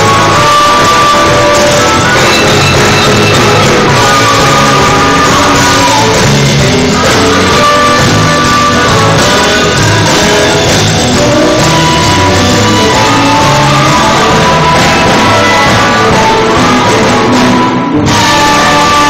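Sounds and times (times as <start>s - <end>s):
bass guitar: 0.0s - 19.0s
drum kit: 0.0s - 19.0s
electric guitar: 0.0s - 19.0s
harmonica: 0.0s - 19.0s.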